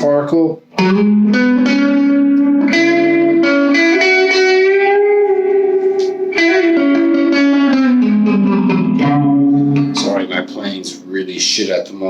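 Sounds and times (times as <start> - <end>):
electric guitar strummed chords: 0.0 - 11.5.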